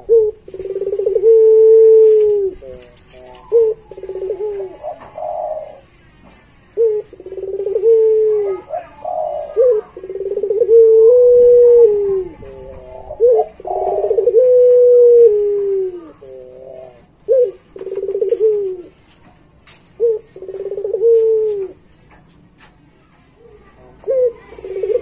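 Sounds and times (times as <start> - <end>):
dove cooing: 0.0 - 5.9, 6.8 - 19.0, 20.0 - 21.8, 23.5 - 25.0.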